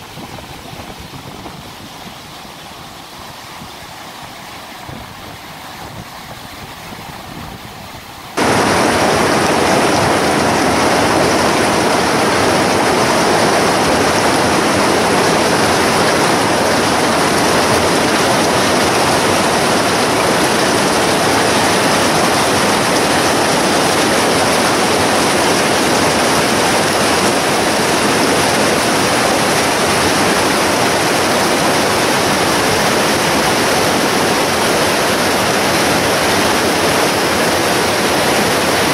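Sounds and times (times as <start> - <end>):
water rushing over boulders: 0.0 - 38.9.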